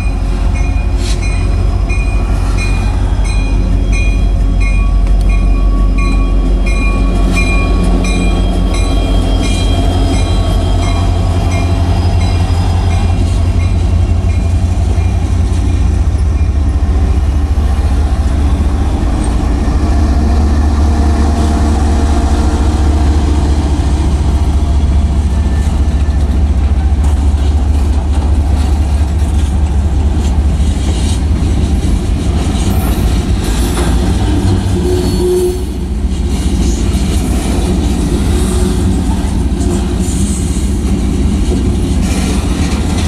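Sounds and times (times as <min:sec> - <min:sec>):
freight train wheels rumbling on rail: 0:00.0 - 0:43.0.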